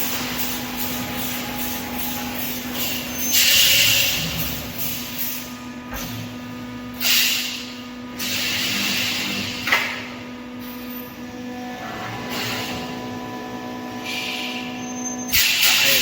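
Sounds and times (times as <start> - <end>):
welding machine humming: 0.0 - 16.0.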